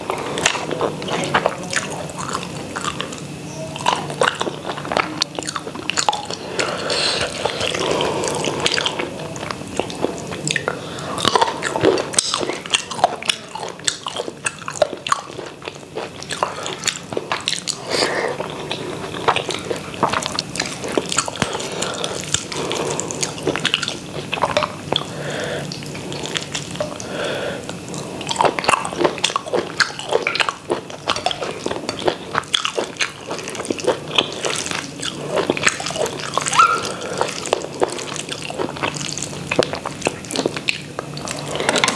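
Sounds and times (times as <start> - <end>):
person chewing: 0.0 - 41.9.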